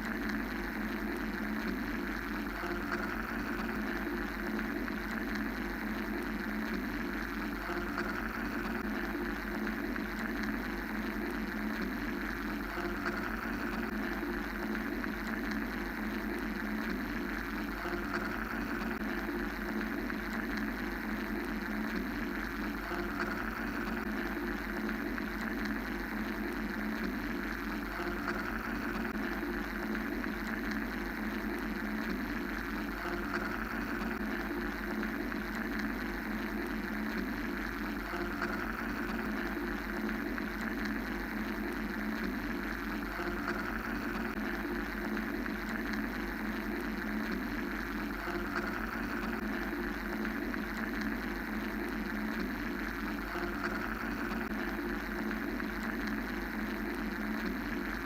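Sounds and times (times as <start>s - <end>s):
constant low hum: 0.0s - 58.0s.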